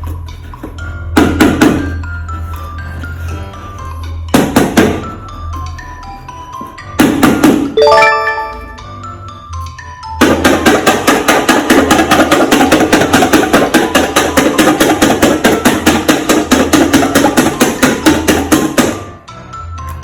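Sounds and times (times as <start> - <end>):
background music: 0.4 - 20.0.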